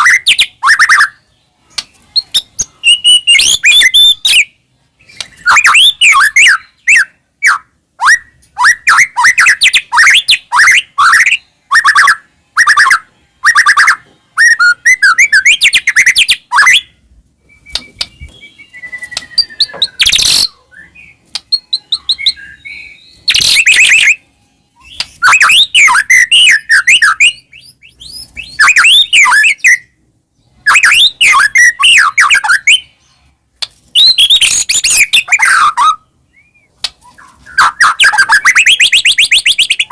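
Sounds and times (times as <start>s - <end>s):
bird singing whistles and chatter: 0.0s - 33.2s, 34.0s - 39.9s.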